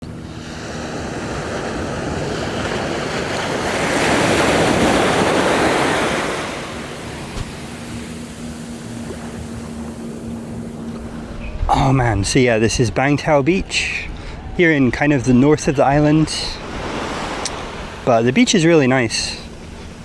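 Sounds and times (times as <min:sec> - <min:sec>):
waves breaking on sandy beach: 0:00.0 - 0:20.0.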